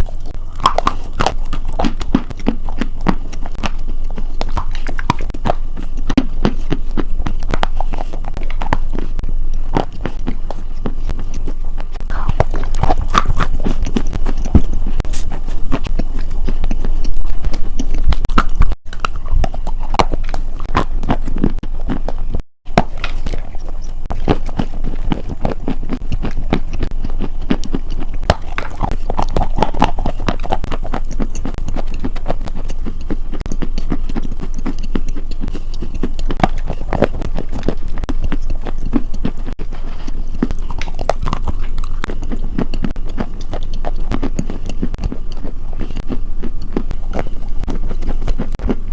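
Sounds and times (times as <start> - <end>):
chewing crunchy food: 0.0 - 48.9.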